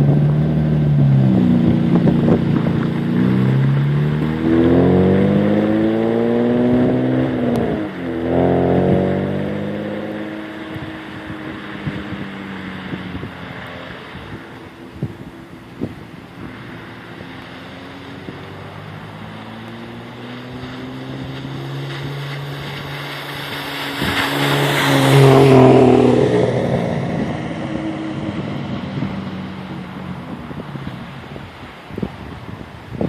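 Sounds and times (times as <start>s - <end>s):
car driving past: 0.0s - 31.9s.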